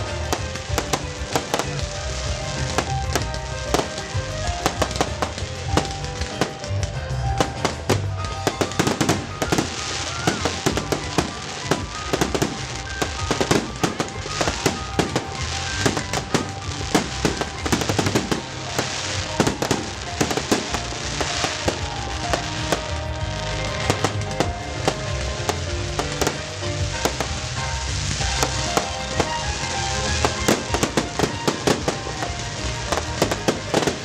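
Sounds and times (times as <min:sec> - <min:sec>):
fireworks bangs and crackles: 0:00.0 - 0:34.0
music: 0:00.0 - 0:34.0.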